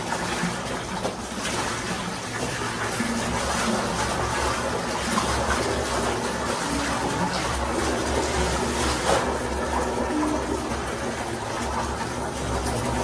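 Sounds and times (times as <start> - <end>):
water splashing into plastic bucket: 0.0 - 13.0.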